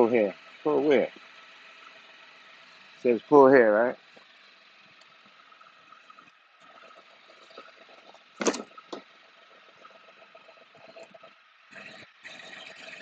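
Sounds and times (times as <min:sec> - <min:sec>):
engine idling faintly: 0:00.0 - 0:12.2.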